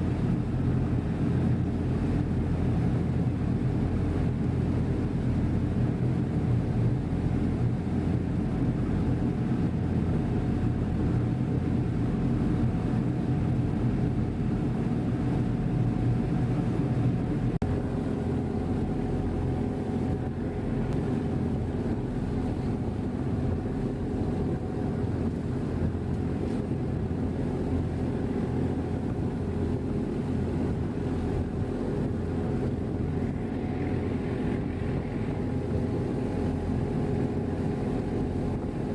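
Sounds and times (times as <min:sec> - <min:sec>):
ferry engines droning: 0:00.0 - 0:38.9.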